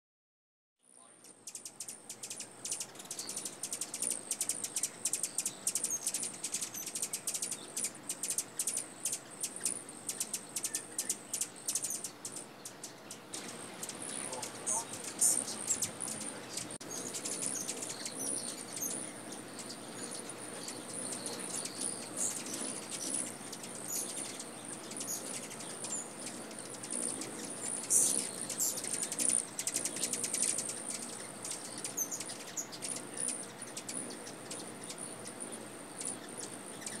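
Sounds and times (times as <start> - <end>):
hummingbird chip notes: 0.9 - 37.0
hummingbird wings buzzing: 1.2 - 37.0.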